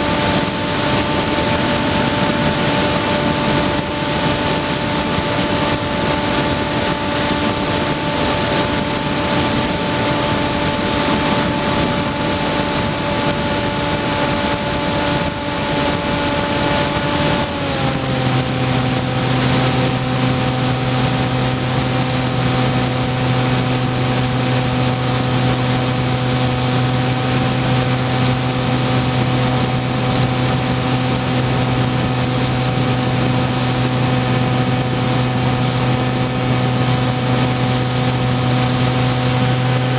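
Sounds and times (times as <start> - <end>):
electric motor and propeller whine: 0.0 - 39.9
rush of air: 0.0 - 39.9.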